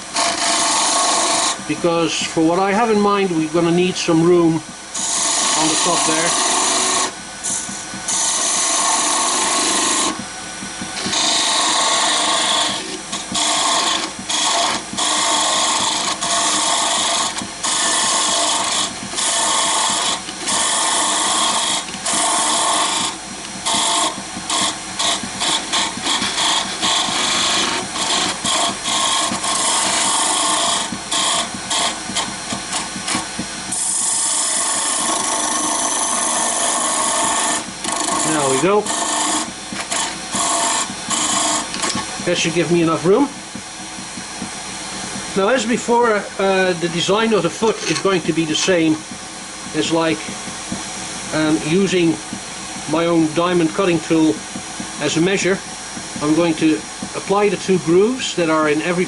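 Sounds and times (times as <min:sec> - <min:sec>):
wood lathe cutting hiss: 0:00.0 - 0:59.0.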